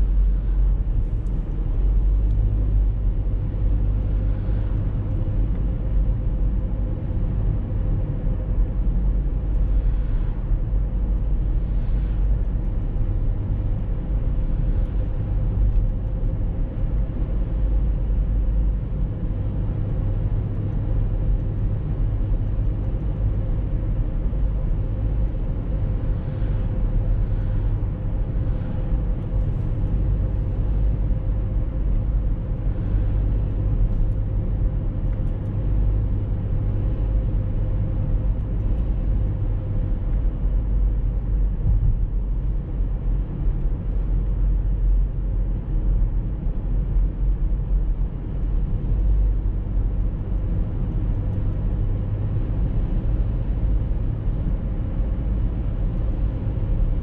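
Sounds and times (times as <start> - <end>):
car driving on paved road: 0.0 - 57.0
faint steady hum: 0.0 - 57.0.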